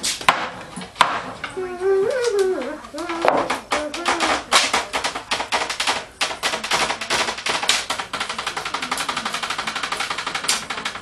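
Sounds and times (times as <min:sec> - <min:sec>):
sharp clicks and cracks: 0:02.2 - 0:11.0.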